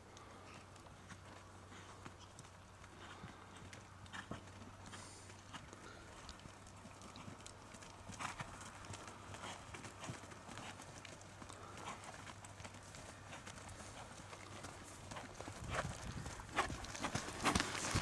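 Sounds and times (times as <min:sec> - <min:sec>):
horse hoofbeats trotting: 0:00.1 - 0:18.0.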